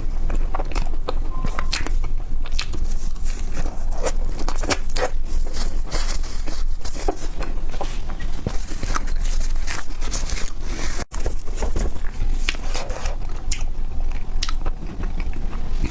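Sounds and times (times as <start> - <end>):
chewing crunchy food: 0.0 - 15.9.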